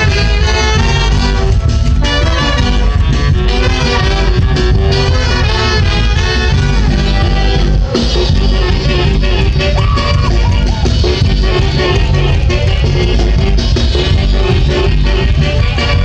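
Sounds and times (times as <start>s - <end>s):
live latin dance band with brass: 0.0s - 16.0s.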